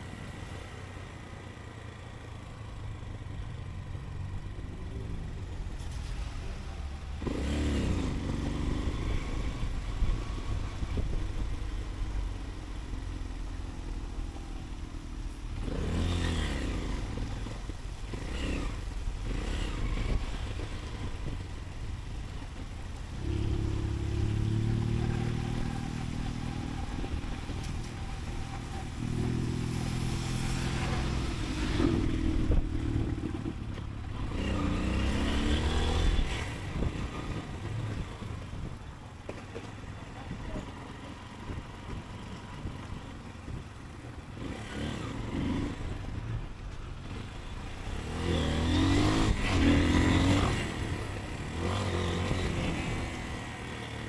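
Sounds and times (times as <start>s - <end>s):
motorcycle engine revving: 0.0s - 54.0s
road and wind rumble: 0.0s - 54.0s.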